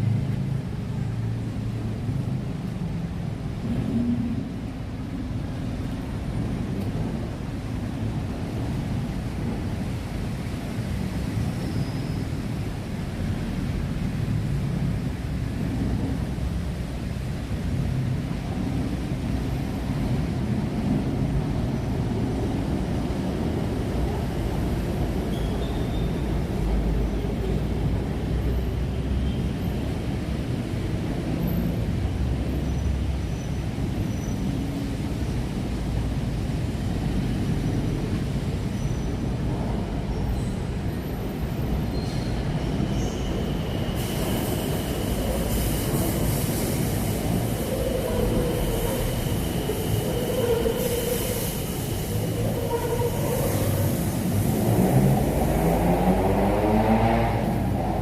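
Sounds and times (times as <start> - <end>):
low rumble of passing vehicles: 0.0 - 58.0.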